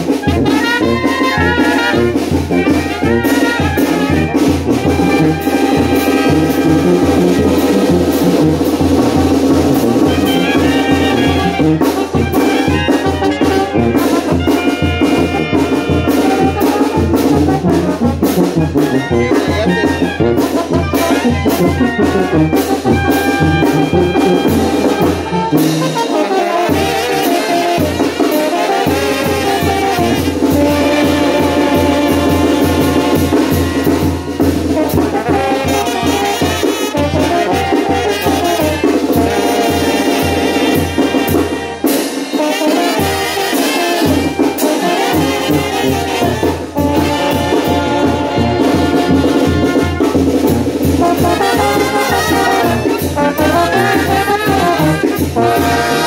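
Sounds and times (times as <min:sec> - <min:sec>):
brass band music: 0:00.0 - 0:56.0.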